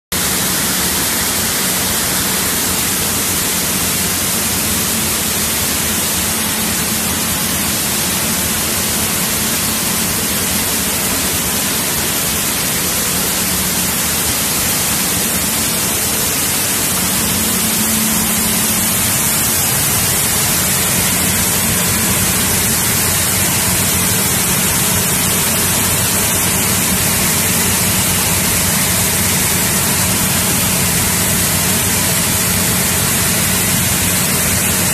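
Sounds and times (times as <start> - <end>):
low machine hum: 0.2 - 34.9
machinery rushing noise: 0.2 - 34.9.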